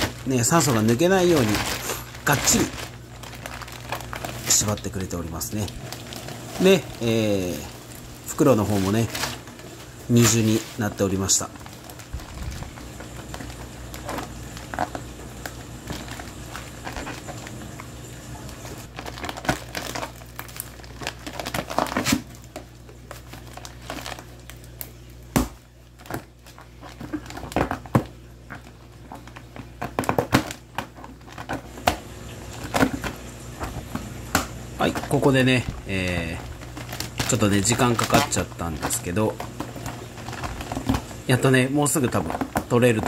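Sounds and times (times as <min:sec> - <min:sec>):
plastic bag crinkling: 0:00.0 - 0:43.0.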